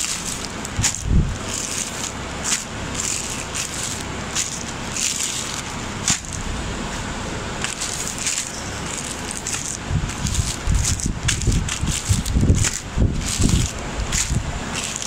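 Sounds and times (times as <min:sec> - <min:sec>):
plastic packaging crinkling: 0:00.0 - 0:06.6, 0:07.6 - 0:15.0
steady low rumble: 0:00.0 - 0:15.0.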